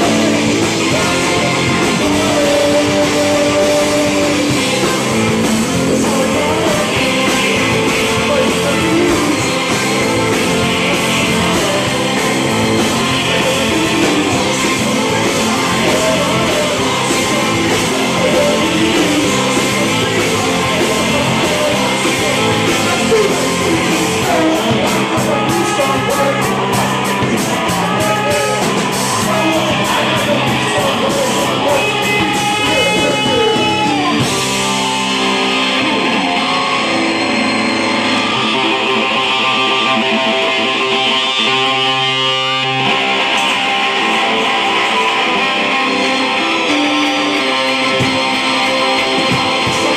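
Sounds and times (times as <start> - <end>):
drums and cymbals: 0.0 - 39.4, 47.6 - 49.9
person singing: 0.0 - 41.8
bass guitar: 0.0 - 49.9
electric guitar: 0.0 - 49.9.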